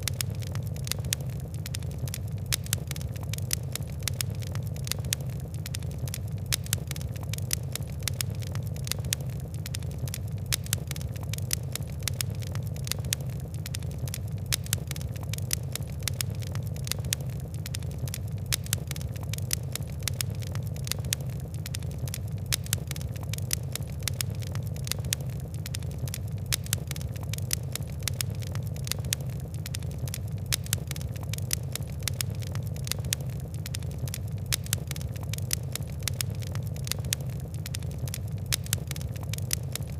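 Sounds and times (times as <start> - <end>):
fire crackling and popping: 0.0 - 39.9
low roar of flame: 0.0 - 39.9.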